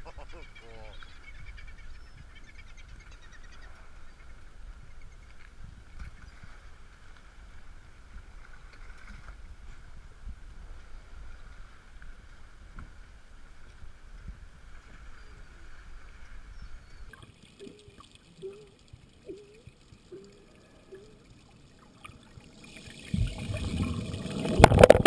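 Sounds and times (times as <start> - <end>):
wind and water over microphone: 0.8 - 25.0.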